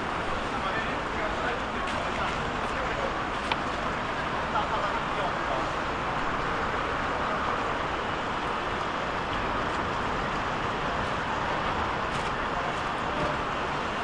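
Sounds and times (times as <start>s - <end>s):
outdoor market background hiss: 0.0s - 14.0s.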